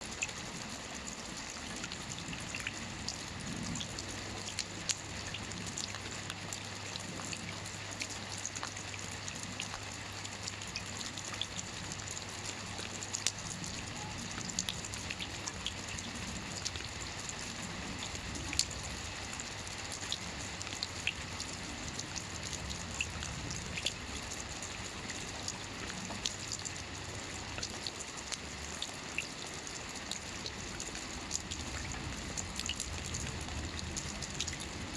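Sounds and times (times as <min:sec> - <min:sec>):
rain falling on water: 0:00.0 - 0:34.9.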